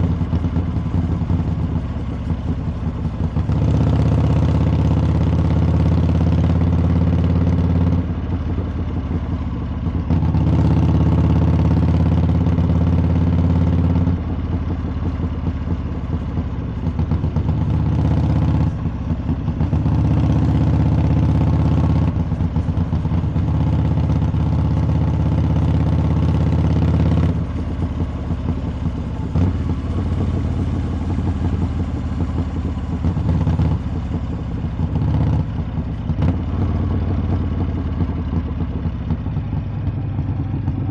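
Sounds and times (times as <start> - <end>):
motorcycle exhaust revving: 0.0 - 40.9.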